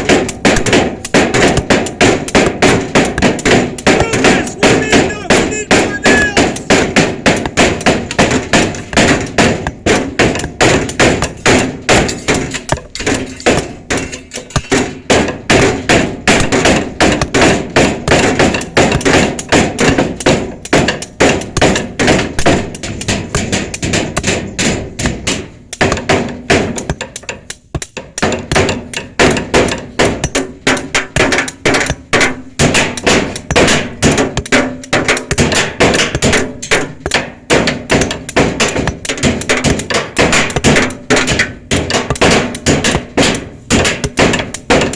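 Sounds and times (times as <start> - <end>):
rapid hammering: 0.0 - 44.9.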